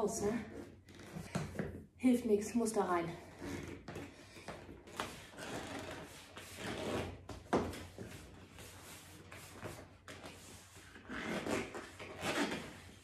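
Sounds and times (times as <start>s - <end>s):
rubber boot rubbing and creaking: 0.2s - 1.8s, 3.2s - 13.0s.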